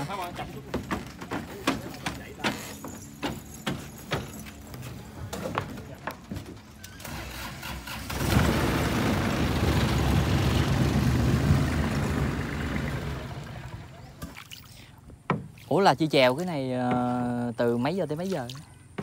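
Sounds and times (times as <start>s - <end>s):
motorboat engine rumbling: 0.0s - 17.8s.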